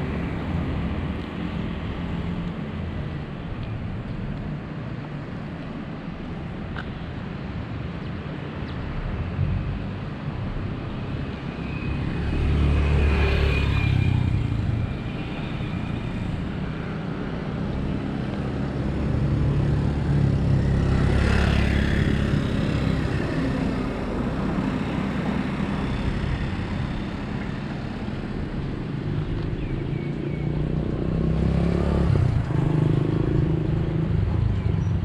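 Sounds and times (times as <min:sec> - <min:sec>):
low traffic rumble: 0:00.0 - 0:35.0
vehicles passing: 0:00.0 - 0:35.0.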